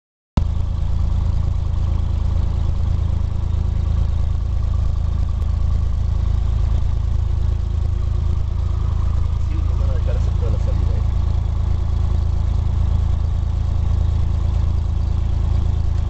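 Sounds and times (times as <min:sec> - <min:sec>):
light aircraft engine drone: 0:00.4 - 0:16.0.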